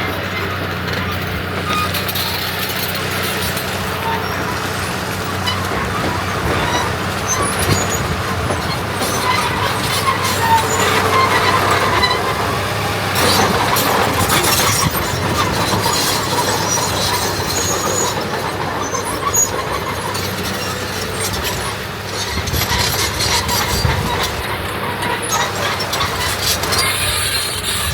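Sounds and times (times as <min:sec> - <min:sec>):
heavy diesel engine running: 0:00.0 - 0:27.9
metallic clanks and rattling: 0:00.8 - 0:27.2.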